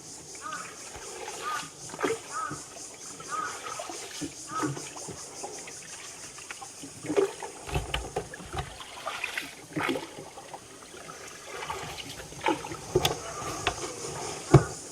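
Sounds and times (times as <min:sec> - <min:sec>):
water trickling and lapping: 0:00.0 - 0:14.9
paddle splashes and knocks: 0:00.3 - 0:14.9.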